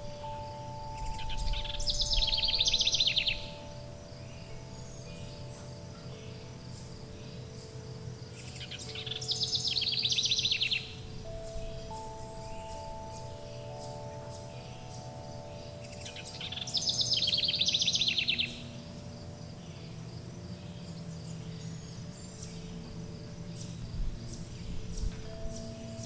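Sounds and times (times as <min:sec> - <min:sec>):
forest birds chirping: 0:00.0 - 0:26.0
loud trilling birdsong: 0:00.0 - 0:26.0
wind chimes ringing: 0:00.0 - 0:26.0.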